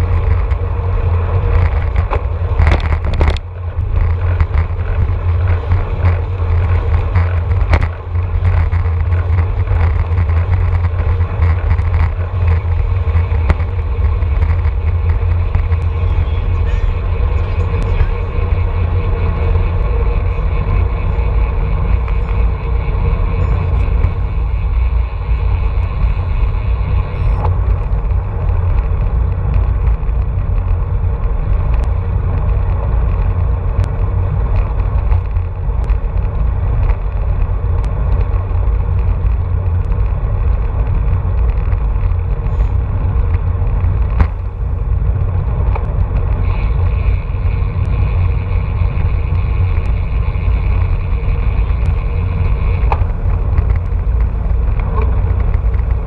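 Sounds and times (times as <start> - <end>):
sharp clicks from bike: 0.0 - 56.0
wind rushing over microphone: 0.0 - 56.0.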